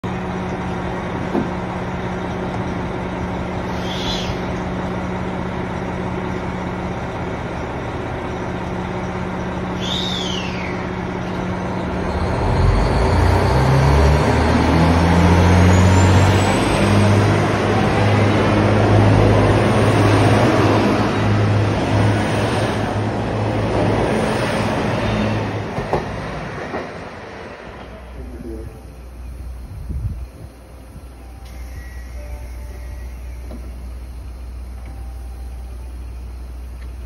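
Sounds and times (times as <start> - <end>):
diesel train engine: 0.0 - 37.0.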